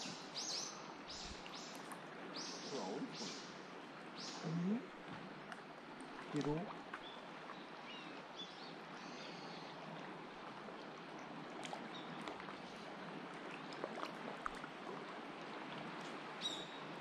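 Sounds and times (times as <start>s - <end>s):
faint wash of water: 0.0s - 17.0s.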